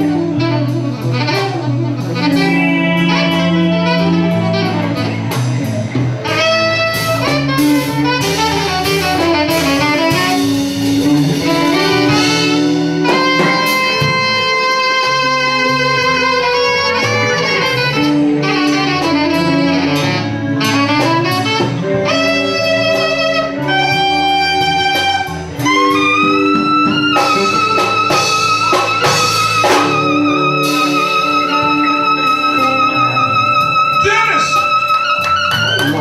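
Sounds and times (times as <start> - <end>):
bass notes: 0.0 - 36.0
saxophone solo: 0.0 - 36.0.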